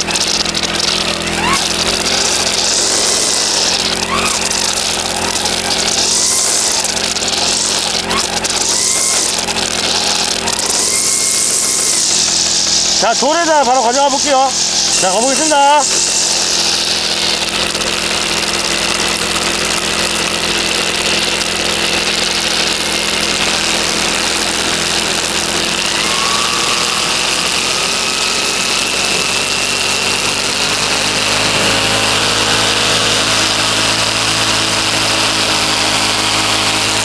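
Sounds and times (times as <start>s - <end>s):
brushcutter engine running under load: 0.0s - 37.0s
trimmer line beating on stone: 0.0s - 37.0s.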